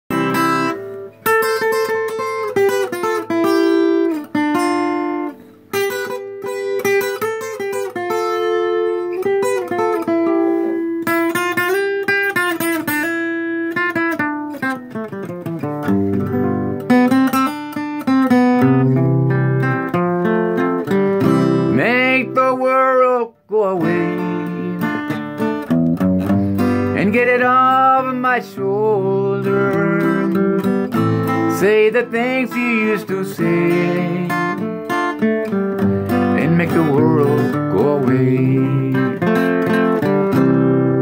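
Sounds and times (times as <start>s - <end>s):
solo acoustic guitar: 0.1s - 41.0s.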